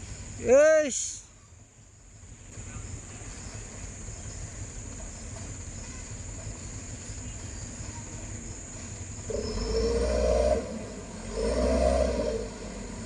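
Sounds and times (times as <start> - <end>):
insect drone: 0.0 - 13.0
truck engine running low: 0.0 - 13.0.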